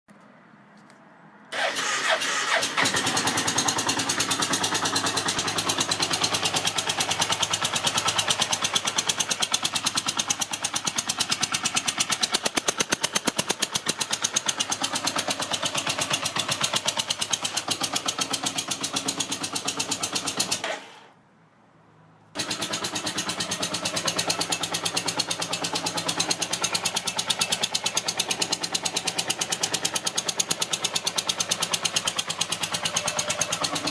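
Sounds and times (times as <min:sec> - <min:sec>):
motorcycle engine starting and idling: 0:01.5 - 0:21.2, 0:22.3 - 0:33.9.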